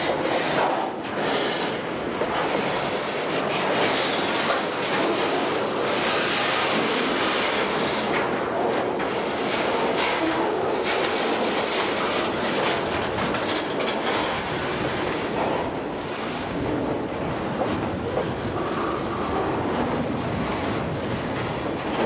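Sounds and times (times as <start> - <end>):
freight train rumble and rattle: 0.0 - 22.0
wheels clicking over rail joints: 0.0 - 22.0.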